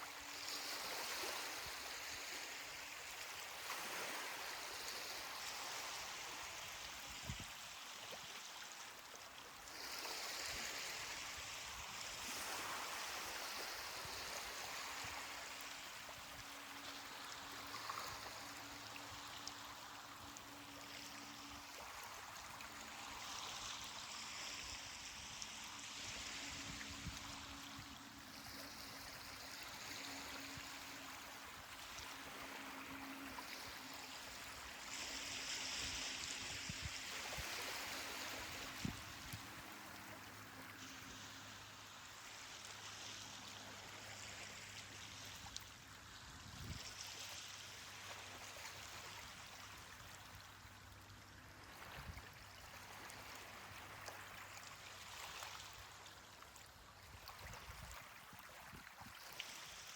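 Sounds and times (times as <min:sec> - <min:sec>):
small waves washing onto beach: 0:00.0 - 0:59.9.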